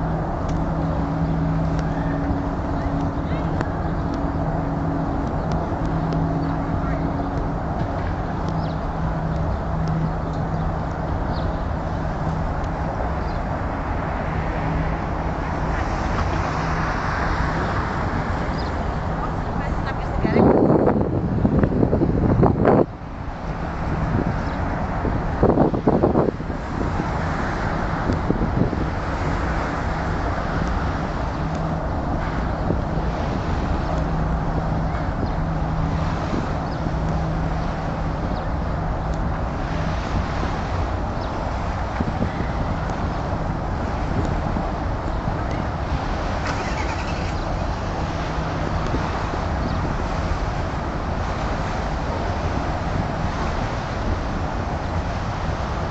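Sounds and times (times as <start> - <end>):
low steady hum: 0.0 - 55.9
road traffic rushing: 0.0 - 55.9
wind on microphone: 0.0 - 55.9.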